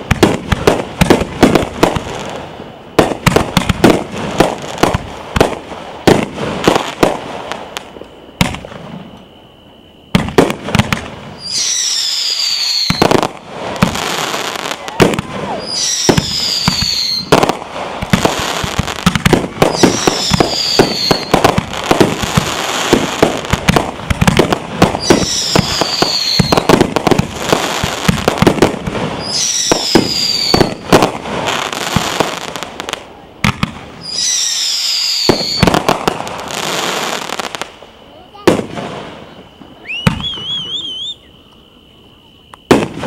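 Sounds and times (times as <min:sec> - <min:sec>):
falling firework whistle: 0:00.0 - 0:43.0
fireworks bangs and crackles: 0:00.0 - 0:43.0.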